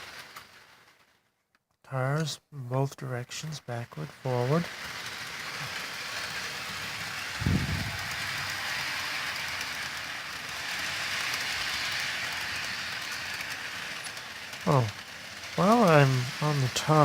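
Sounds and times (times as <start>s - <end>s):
model train running on track: 0.0s - 1.3s, 1.9s - 17.0s.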